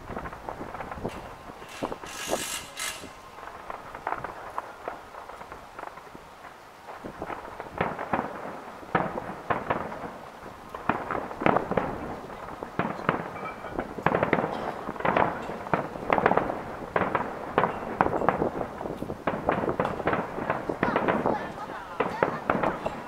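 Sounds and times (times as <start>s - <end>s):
fireworks bangs and pops: 0.0s - 23.0s.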